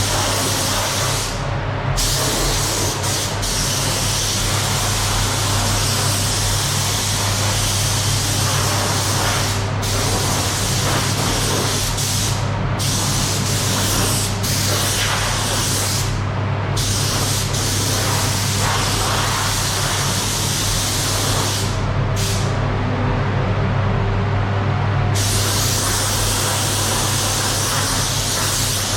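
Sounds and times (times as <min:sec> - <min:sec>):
constant low hum: 0:00.0 - 0:28.9
spray gun hissing: 0:02.0 - 0:16.2, 0:16.8 - 0:22.4, 0:25.2 - 0:28.9.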